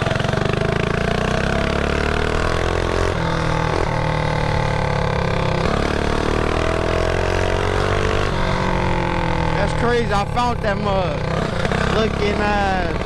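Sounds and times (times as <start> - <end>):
mini bike engine running: 0.0 - 13.0.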